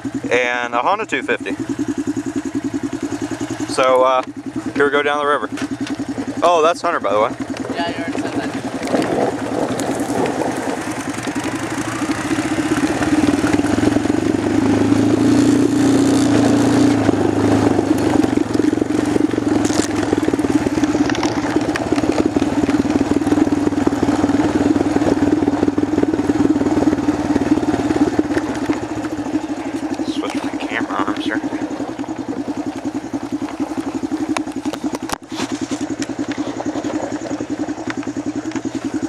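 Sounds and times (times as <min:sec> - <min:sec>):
quad bike engine running: 0:00.0 - 0:39.0.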